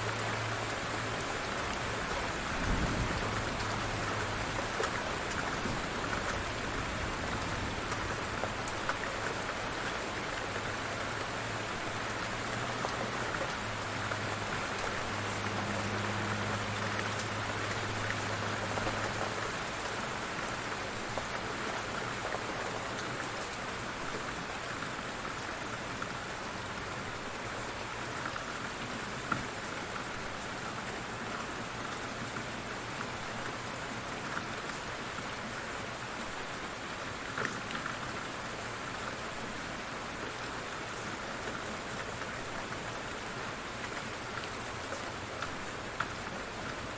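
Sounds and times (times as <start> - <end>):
light rain falling: 0.0 - 46.9.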